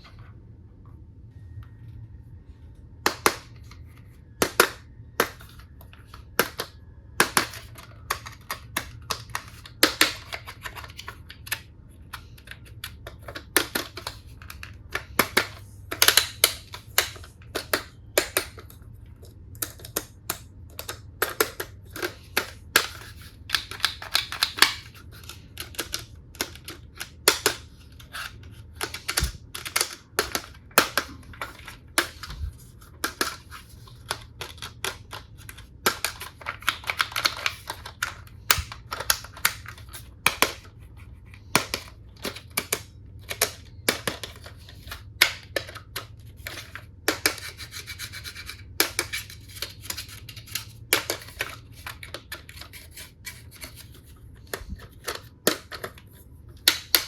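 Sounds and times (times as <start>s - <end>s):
faint low hum: 0.0s - 57.0s
plastic toy pieces clicking: 4.4s - 18.8s, 19.6s - 32.3s, 32.9s - 40.7s, 41.4s - 53.8s.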